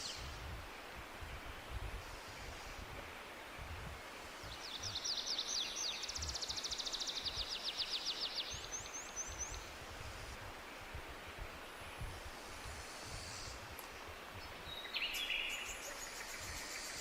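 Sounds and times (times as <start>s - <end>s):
forest background hiss: 0.0s - 17.0s.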